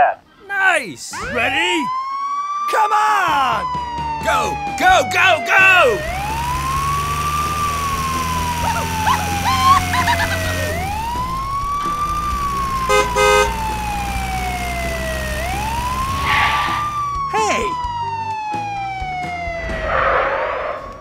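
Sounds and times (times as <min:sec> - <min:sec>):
ambulance siren wailing: 0:00.6 - 0:21.0.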